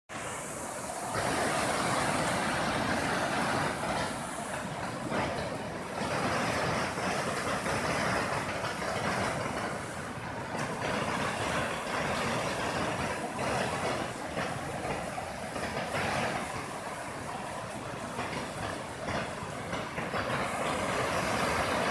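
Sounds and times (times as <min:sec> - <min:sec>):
floodwater rushing: 0:00.1 - 0:21.9.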